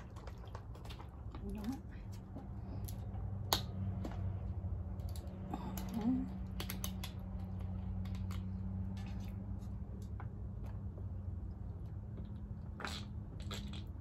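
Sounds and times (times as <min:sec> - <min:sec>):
food chewing and crackling: 0:00.0 - 0:14.0.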